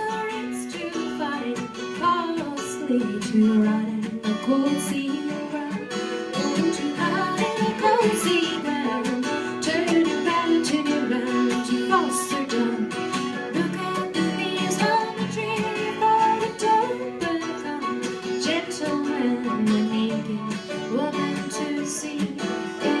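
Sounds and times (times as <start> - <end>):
acoustic folk band playing: 0.0 - 23.0
acoustic guitar strummed and picked: 0.0 - 23.0.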